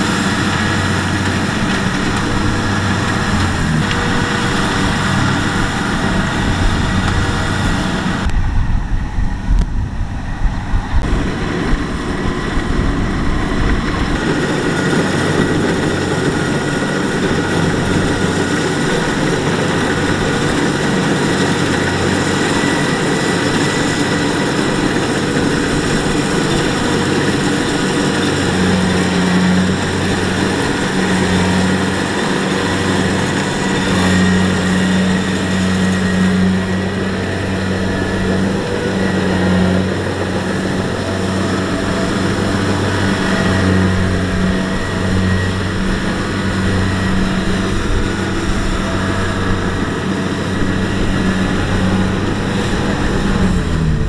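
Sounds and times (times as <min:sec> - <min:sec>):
combine harvester diesel engine: 0:00.0 - 0:54.0
thin steady whine: 0:00.0 - 0:54.0.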